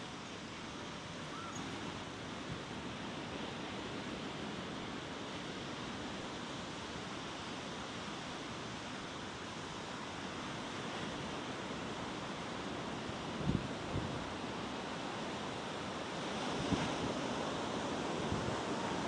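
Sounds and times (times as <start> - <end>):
ocean surf breaking on sand: 0.0 - 19.0.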